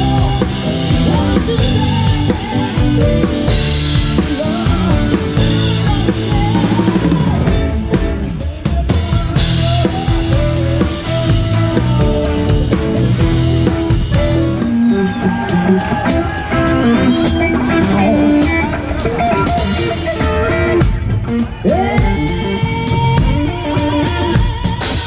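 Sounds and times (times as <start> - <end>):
bass: 0.0 - 25.0
drum kit with cymbal hits: 0.0 - 25.0
electric guitar lead line: 0.0 - 25.0.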